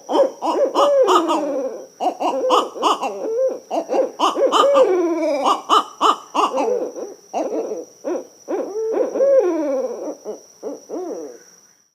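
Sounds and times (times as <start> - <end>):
owl hooting and cackling: 0.0 - 11.5.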